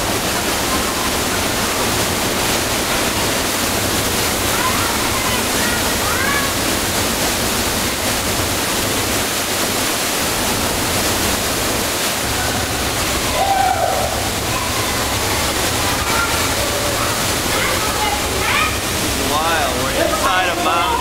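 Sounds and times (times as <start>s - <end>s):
waterfall rushing echoing: 0.0s - 21.0s.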